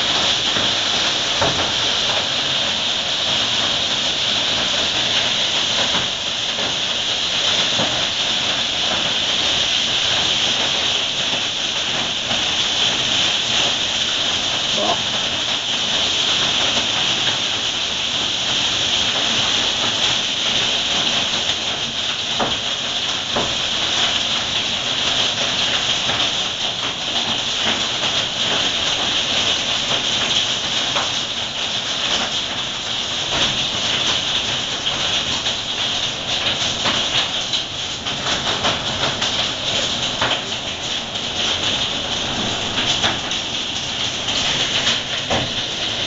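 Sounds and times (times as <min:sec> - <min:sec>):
hail and rain hammering down: 0:00.0 - 0:46.0
hailstones ticking: 0:00.0 - 0:46.0.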